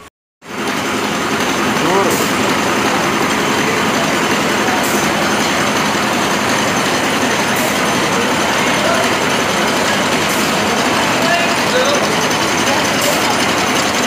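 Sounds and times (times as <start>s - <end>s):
packing machinery din: 0.5s - 14.0s.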